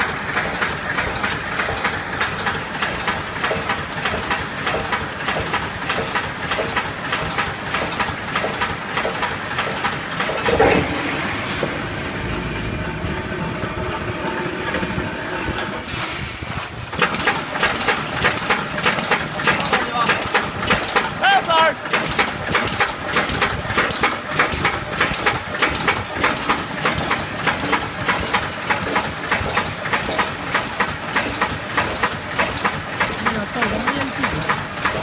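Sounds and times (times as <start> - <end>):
machine jolt: 0.0 - 12.2, 14.8 - 21.2, 21.8 - 35.0
welding machine clanking: 0.0 - 35.0.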